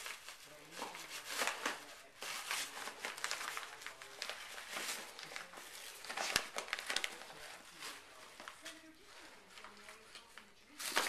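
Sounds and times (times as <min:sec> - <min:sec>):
foil bag and paper crinkling: 0:00.0 - 0:11.0.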